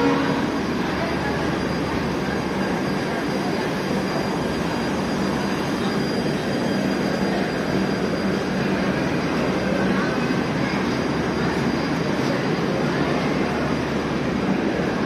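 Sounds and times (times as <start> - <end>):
train rumbling and humming: 0.0 - 15.0.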